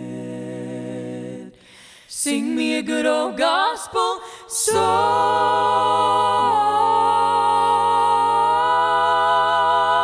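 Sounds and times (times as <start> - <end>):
vocal group singing a cappella: 0.0 - 10.0.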